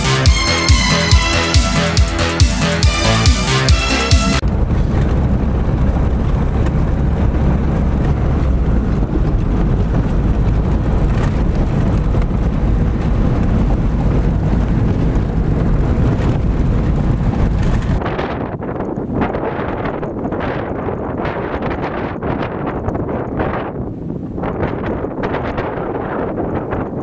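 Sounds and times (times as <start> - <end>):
vehicle engine and tyre rumble: 4.4 - 27.0.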